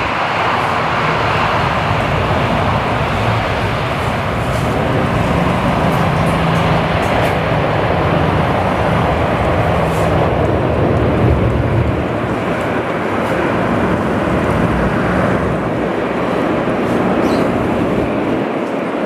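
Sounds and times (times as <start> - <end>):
turboprop engines running: 0.0 - 19.0.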